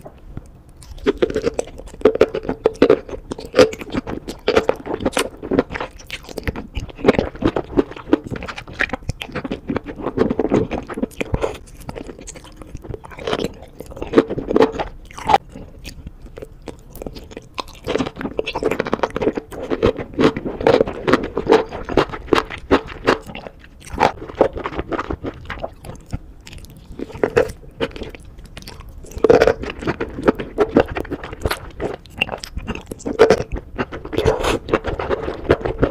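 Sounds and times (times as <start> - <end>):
person chewing with wet crunches: 0.0 - 35.9.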